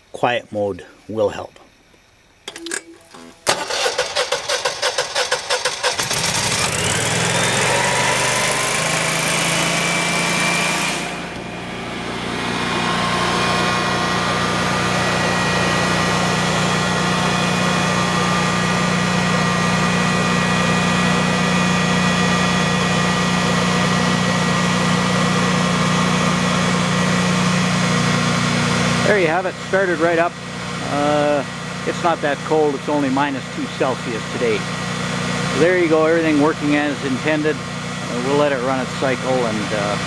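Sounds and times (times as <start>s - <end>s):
generator engine starting and running: 2.4s - 40.0s.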